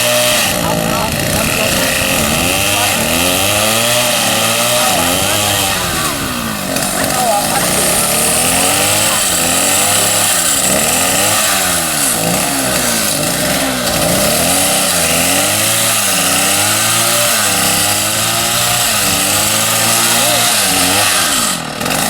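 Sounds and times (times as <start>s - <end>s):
chainsaw cutting a tree: 0.0s - 22.0s.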